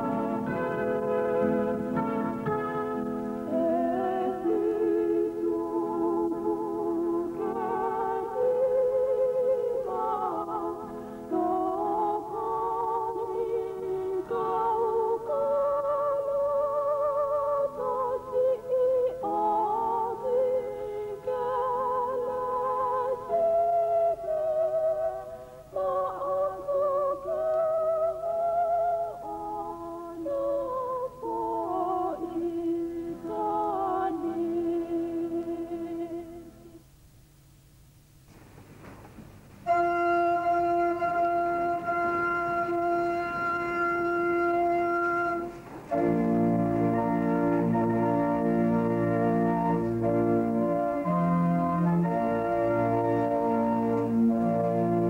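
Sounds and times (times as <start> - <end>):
organ music with vibrato: 0.0 - 35.8, 39.6 - 55.0.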